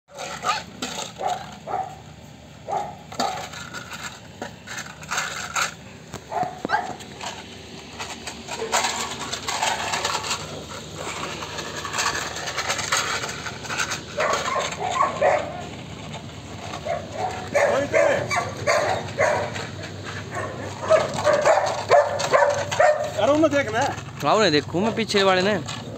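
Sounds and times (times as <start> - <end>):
clatters and scrapes: 0.1 - 25.9
puppies scuffling: 2.7 - 25.9.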